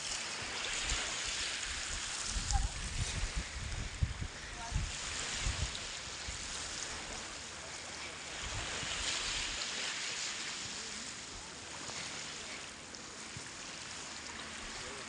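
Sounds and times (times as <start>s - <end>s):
small waves washing onto beach: 0.0s - 15.0s.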